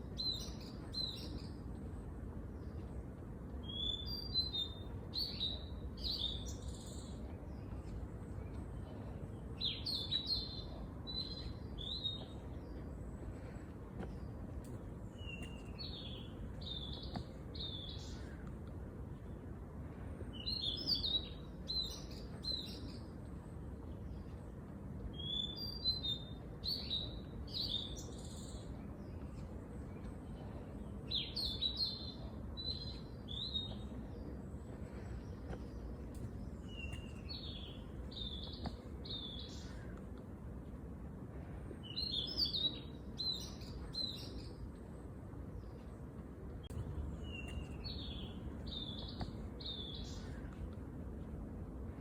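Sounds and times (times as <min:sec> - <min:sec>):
low background rumble: 0:00.0 - 0:52.0
songbird singing: 0:00.0 - 0:52.0.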